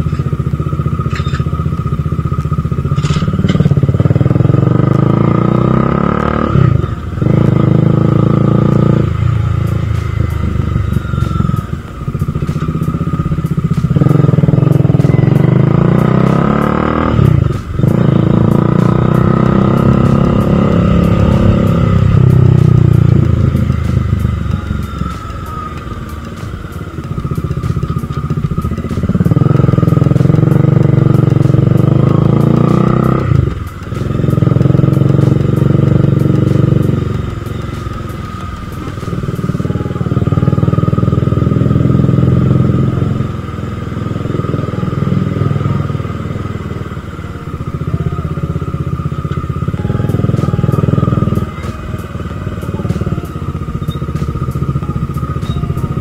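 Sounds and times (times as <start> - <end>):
motorcycle engine revving: 0.0 - 56.0
steady high whine: 0.0 - 56.0.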